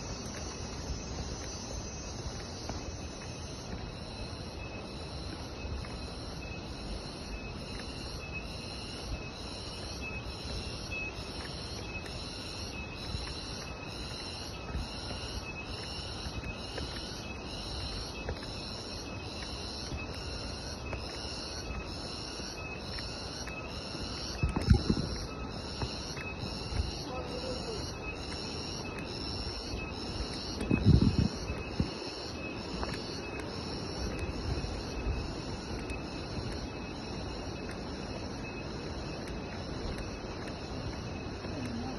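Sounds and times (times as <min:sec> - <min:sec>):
insects calling in pulses: 0:00.0 - 0:41.9.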